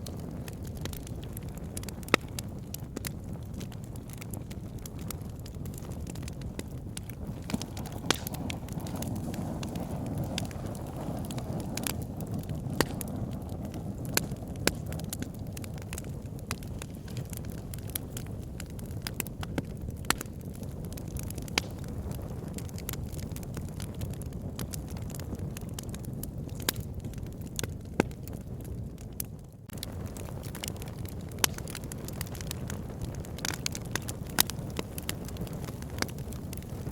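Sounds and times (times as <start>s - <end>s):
logs crackling and popping: 0.0s - 36.9s
low rumble of flames: 0.0s - 36.9s.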